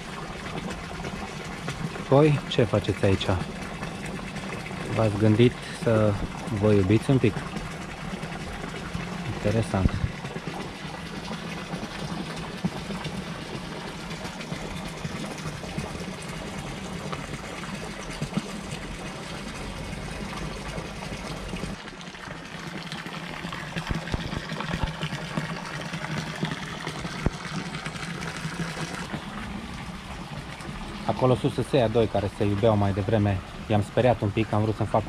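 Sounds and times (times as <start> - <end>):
fountain water splashing: 0.0 - 35.0.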